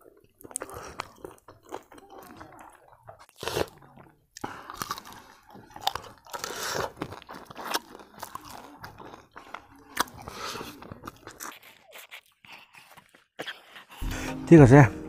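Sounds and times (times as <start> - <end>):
person chewing food: 0.0 - 14.4.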